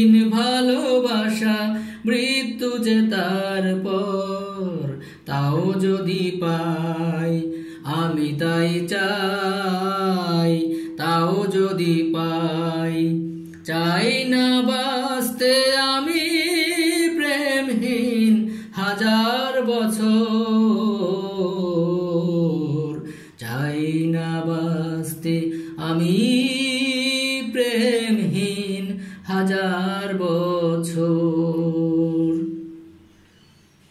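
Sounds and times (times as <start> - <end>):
person singing with vibrato: 0.0 - 33.3.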